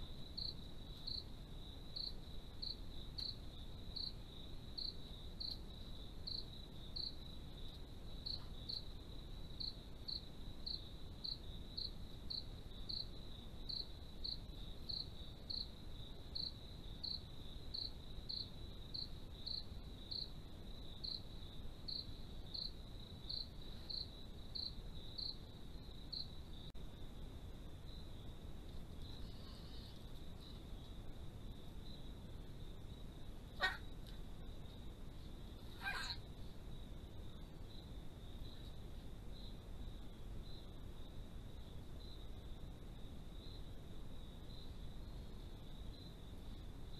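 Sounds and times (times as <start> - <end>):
insect chirps: 0.0 - 46.9.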